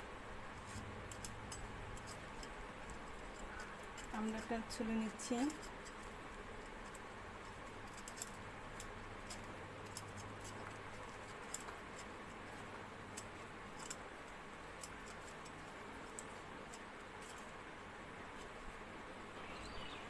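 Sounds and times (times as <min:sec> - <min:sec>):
steady low hum: 0:00.0 - 0:20.0
peeler scraping fruit skin: 0:00.5 - 0:17.6.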